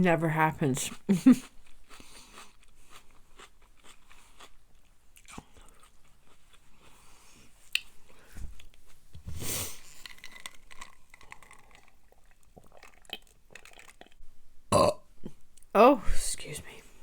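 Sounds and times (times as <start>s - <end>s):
person chewing: 0.9s - 14.2s, 14.8s - 15.7s.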